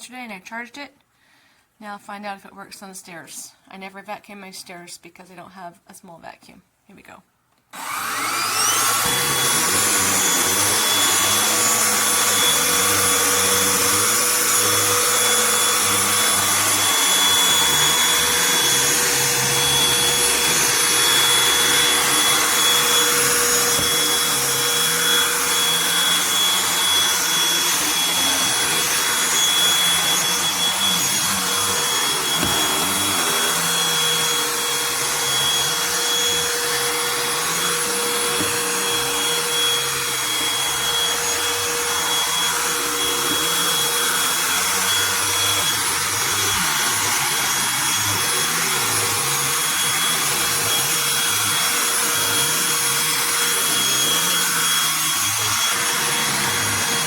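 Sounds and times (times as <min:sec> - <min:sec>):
handheld vacuum motor whine: 0:07.7 - 0:57.0.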